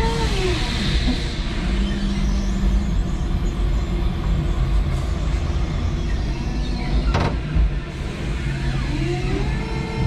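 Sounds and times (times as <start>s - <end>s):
forklift motor and hydraulics hum: 0.0s - 10.0s.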